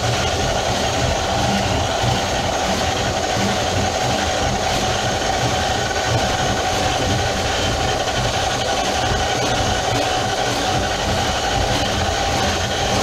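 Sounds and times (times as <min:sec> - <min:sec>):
drain machine whine and rumble: 0:00.0 - 0:13.0.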